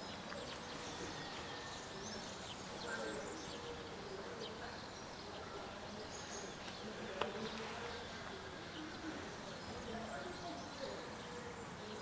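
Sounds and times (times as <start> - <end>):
quiet street ambience: 0.0 - 12.0.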